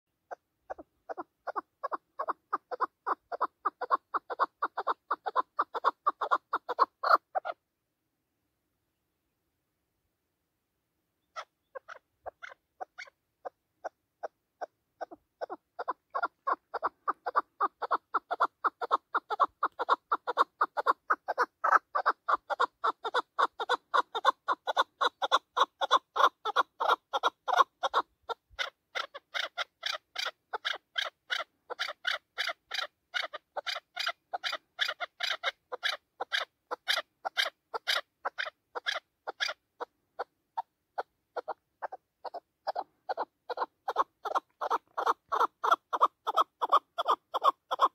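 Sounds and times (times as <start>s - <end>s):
partridge clucking calls: 0.3s - 7.6s, 11.3s - 47.9s.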